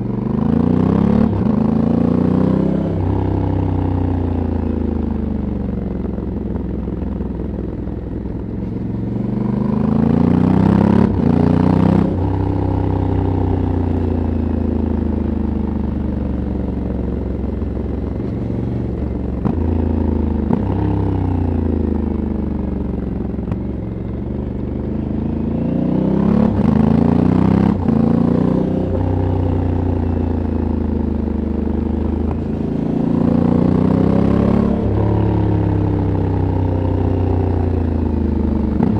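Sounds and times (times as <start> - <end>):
motorcycle engine revving: 0.0 - 5.8, 8.3 - 38.9.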